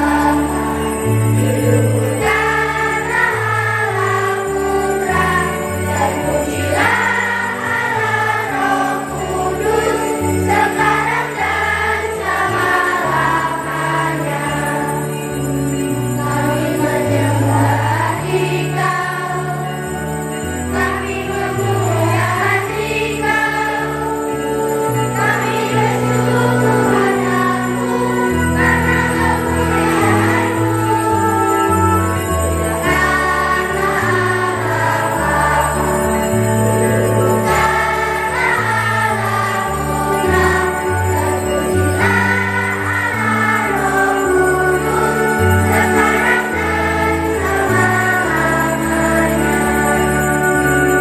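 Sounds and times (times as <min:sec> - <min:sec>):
children's choir singing: 0:00.0 - 0:51.0.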